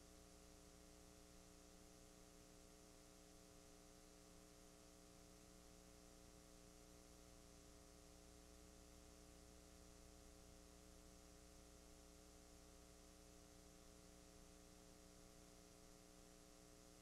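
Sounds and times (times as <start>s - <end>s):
faint electrical hum with hiss: 0.0s - 17.0s.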